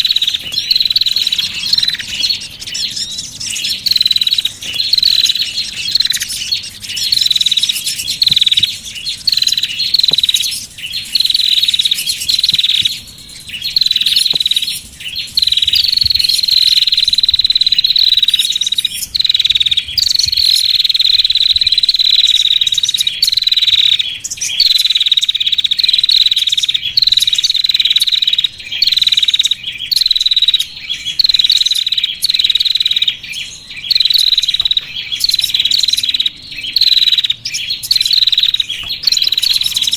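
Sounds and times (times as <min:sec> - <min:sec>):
bird trilling: 0:00.0 - 0:39.9
songbirds chirping: 0:00.0 - 0:39.9.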